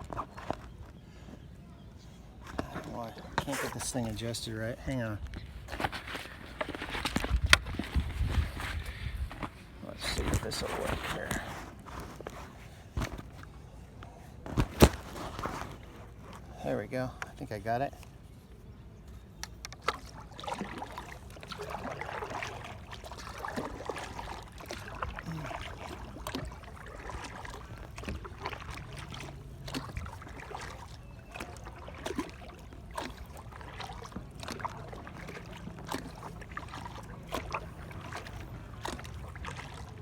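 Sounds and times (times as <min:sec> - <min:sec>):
paddle splashing in water: 0:02.4 - 0:16.6, 0:18.0 - 0:40.0.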